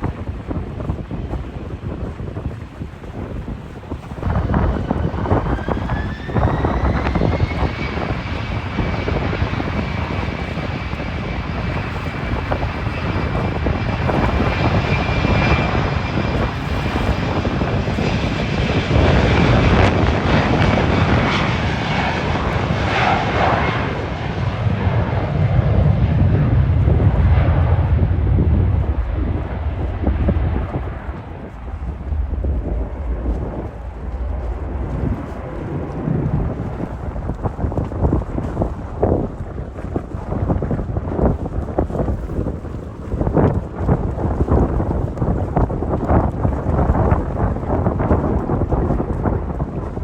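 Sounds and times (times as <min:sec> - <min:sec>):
jet engine deep rumble: 0:00.0 - 0:50.0
jet engine high whine: 0:00.0 - 0:50.0.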